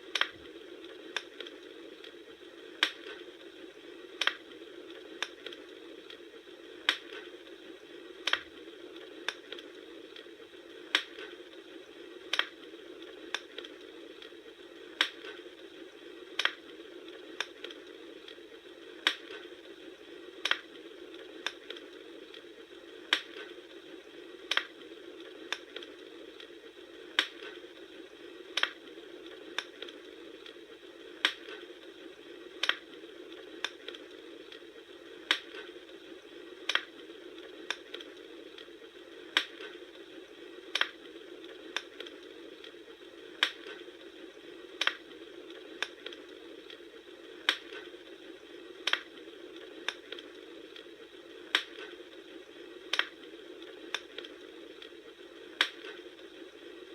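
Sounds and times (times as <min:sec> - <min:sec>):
bonfire crackling: 0:00.0 - 0:56.9.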